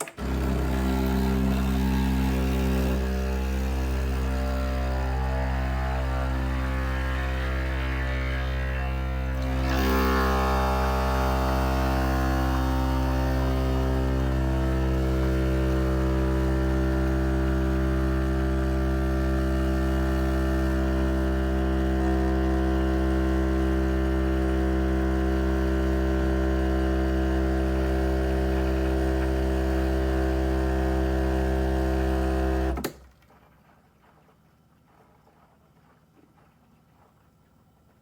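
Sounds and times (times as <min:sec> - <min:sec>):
espresso machine pump buzzing: 0:00.0 - 0:32.8.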